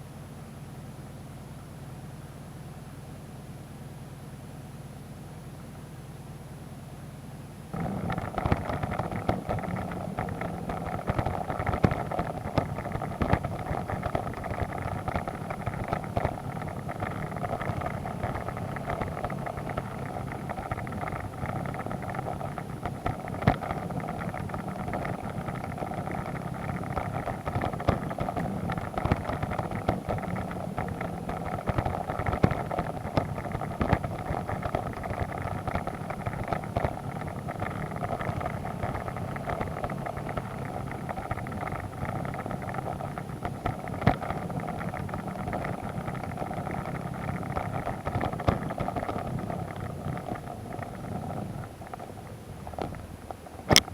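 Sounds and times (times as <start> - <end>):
motorcycle engine running: 7.2 - 53.9.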